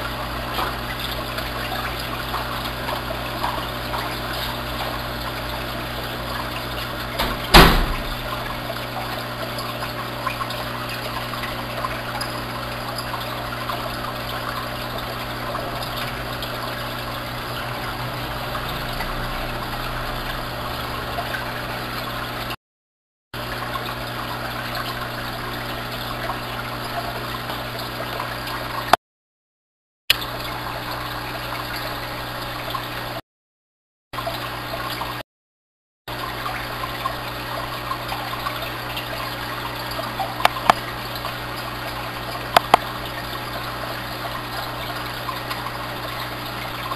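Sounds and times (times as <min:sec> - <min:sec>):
aquarium water bubbling: 0:00.0 - 0:22.6, 0:23.4 - 0:29.0, 0:30.1 - 0:33.2, 0:34.2 - 0:35.2, 0:36.1 - 0:46.9
electric pump hum: 0:00.0 - 0:22.6, 0:23.4 - 0:29.0, 0:30.1 - 0:33.2, 0:36.1 - 0:46.9.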